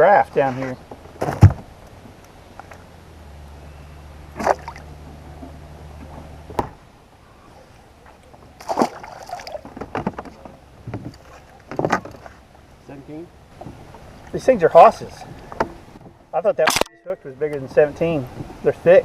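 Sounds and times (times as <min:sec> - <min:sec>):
low steady hum: 0:00.0 - 0:19.0
water sloshing against kayak: 0:00.3 - 0:16.3.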